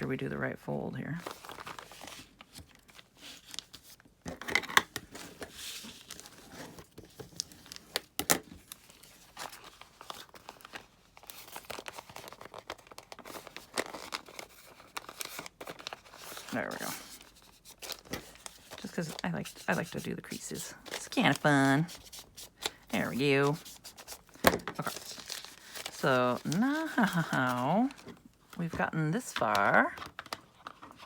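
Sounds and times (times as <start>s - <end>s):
paper being folded and creased: 1.2s - 4.0s, 4.8s - 28.6s.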